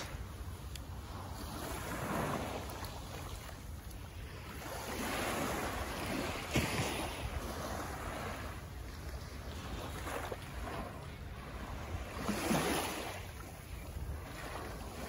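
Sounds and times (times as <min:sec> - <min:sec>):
small waves lapping on sand: 0:00.0 - 0:15.0
wind rumble on microphone: 0:00.0 - 0:15.0.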